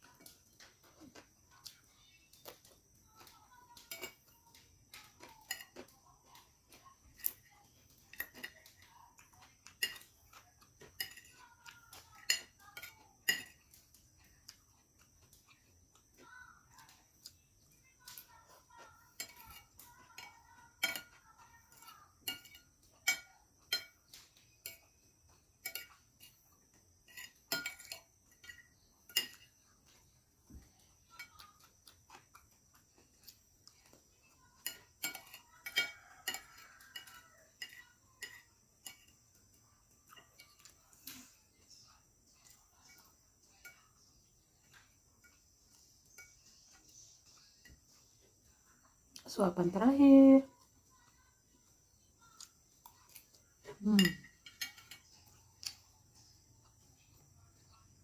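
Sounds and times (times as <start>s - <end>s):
spoon clinking and scraping plate: 2.4s - 15.6s, 18.1s - 48.3s, 52.4s - 57.8s.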